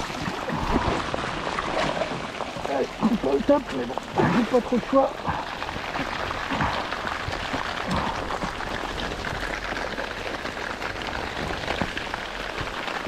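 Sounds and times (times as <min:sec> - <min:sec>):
rain on a plastic tarp: 0:00.0 - 0:13.0.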